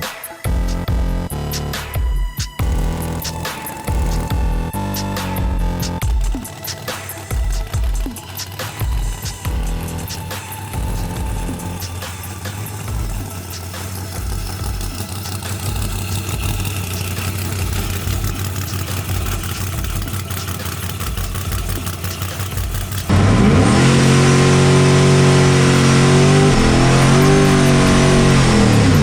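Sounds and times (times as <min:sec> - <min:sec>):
race car engine revving: 0:02.5 - 0:29.0.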